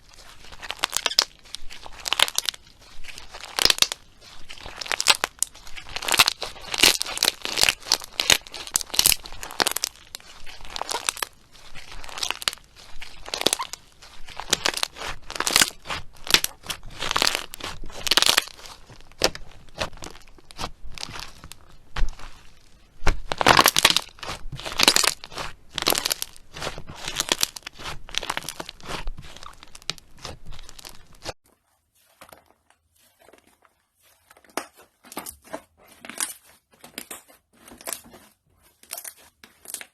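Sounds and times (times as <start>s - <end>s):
slime squelching and crackling: 0.0s - 39.9s.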